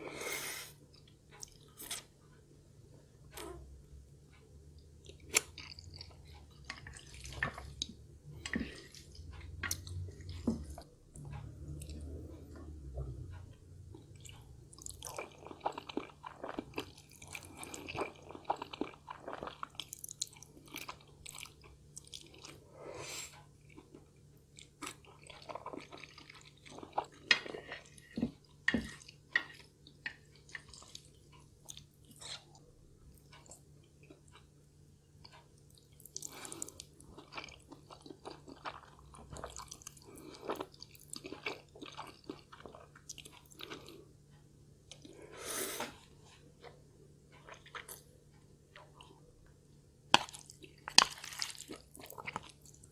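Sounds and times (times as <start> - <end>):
person chewing food: 0.7 - 2.4, 3.0 - 52.9.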